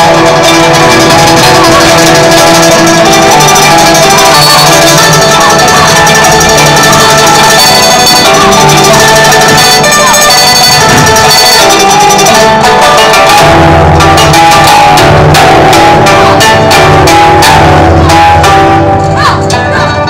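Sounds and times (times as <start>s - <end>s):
instrumental music with sliding pitches: 0.0s - 20.0s.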